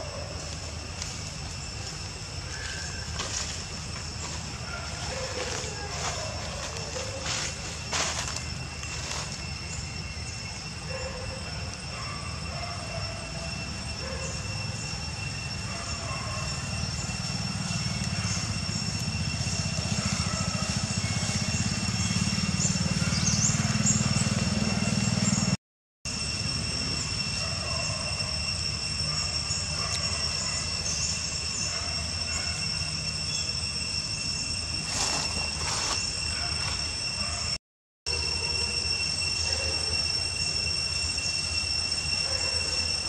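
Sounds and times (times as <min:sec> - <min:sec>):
high-pitched whine: 0:00.0 - 0:43.0.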